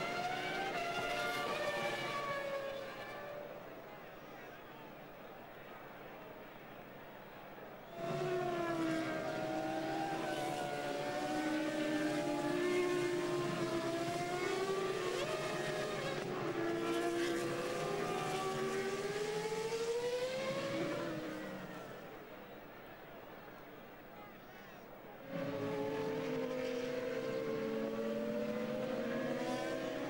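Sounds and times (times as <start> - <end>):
racing car engines passing: 0.0 - 30.0.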